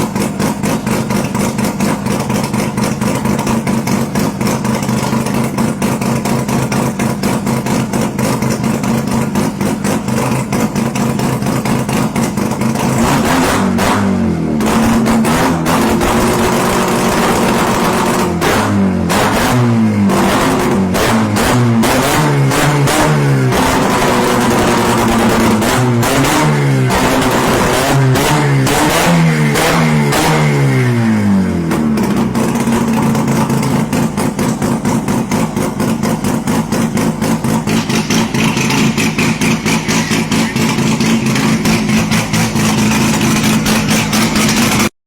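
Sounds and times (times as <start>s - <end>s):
rotary engine revving and idling: 0.0s - 45.0s.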